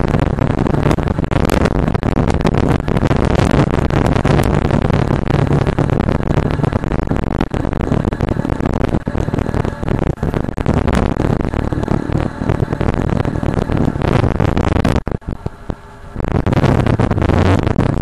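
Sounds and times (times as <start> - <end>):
motorcycle engine drone: 0.0 - 18.0
wind buffeting microphone: 0.0 - 18.0.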